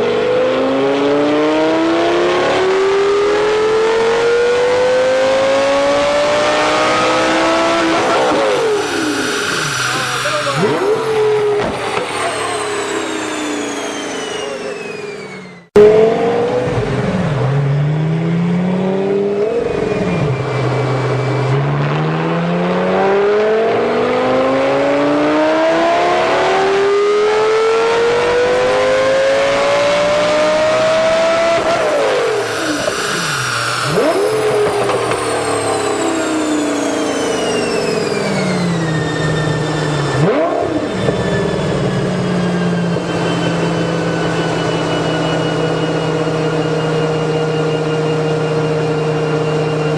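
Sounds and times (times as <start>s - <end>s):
car engine revving: 0.0s - 49.9s
high whine sliding down: 0.0s - 49.9s.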